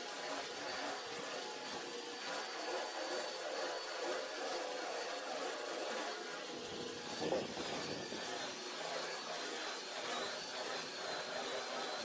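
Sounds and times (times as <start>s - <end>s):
belt sander grinding metal: 0.0s - 12.0s.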